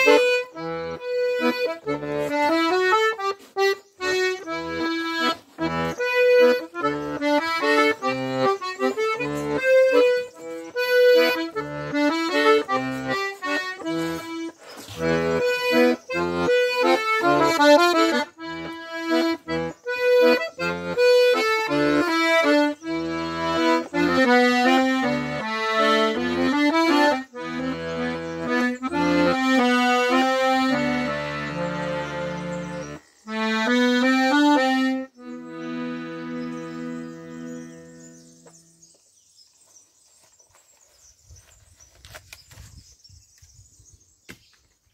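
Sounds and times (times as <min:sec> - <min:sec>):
accordion playing waltz: 0:00.0 - 0:39.0.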